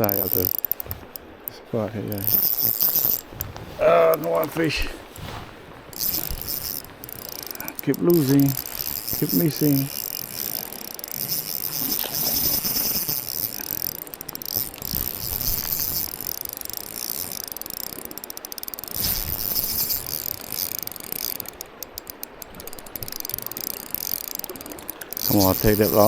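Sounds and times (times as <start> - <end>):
fishing reel ratcheting: 0.0 - 26.0
water rushing: 0.0 - 26.0.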